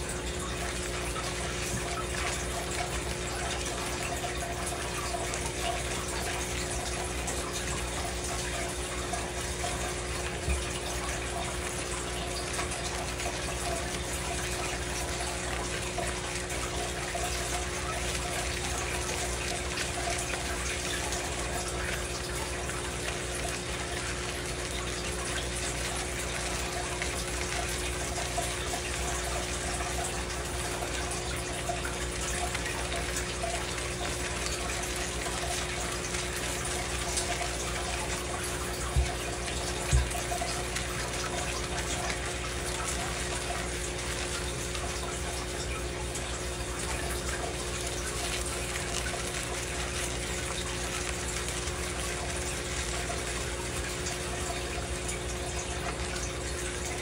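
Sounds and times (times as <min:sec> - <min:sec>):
faint steady hum: 0:00.0 - 0:57.0
tap water running into sink: 0:00.0 - 0:57.0.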